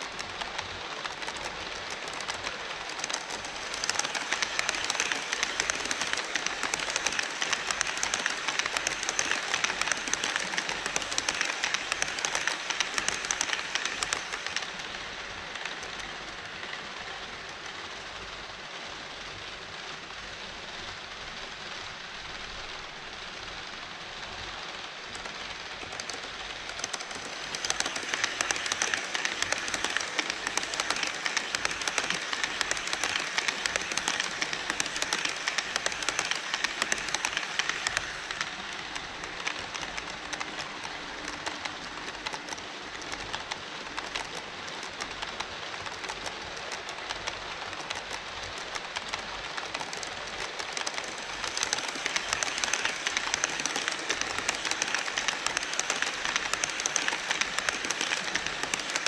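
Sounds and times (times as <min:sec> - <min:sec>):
rapid clicking over rail joints: 0:00.0 - 0:16.8, 0:25.1 - 0:59.0
model train wheels rattling: 0:00.0 - 0:18.2, 0:24.2 - 0:59.0.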